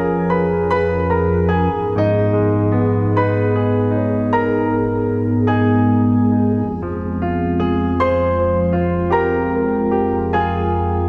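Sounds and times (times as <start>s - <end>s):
electric piano notes: 0.0s - 11.0s
sustained low tone: 0.0s - 11.0s.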